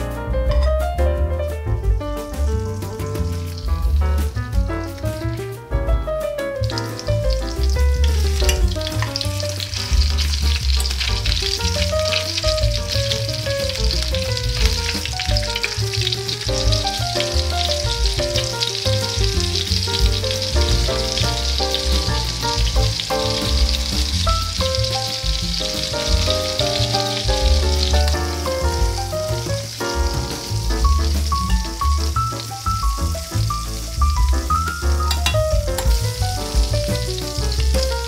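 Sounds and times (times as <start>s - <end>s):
background music: 0.0s - 38.0s
meat sizzling in butter: 2.4s - 5.4s, 6.5s - 38.0s.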